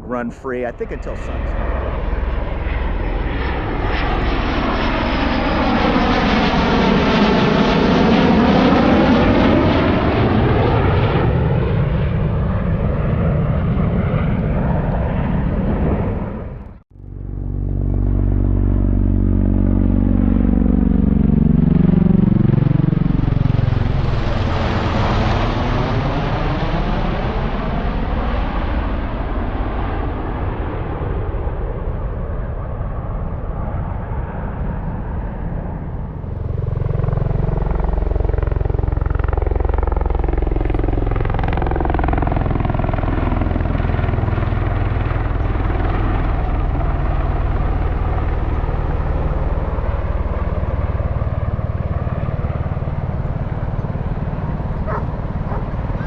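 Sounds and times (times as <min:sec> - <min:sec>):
military aircraft flying low overhead: 0:00.0 - 0:56.0.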